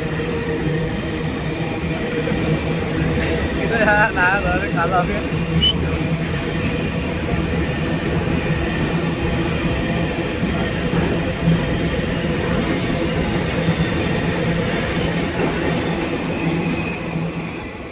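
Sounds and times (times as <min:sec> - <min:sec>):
train engine drone: 0:00.0 - 0:17.9.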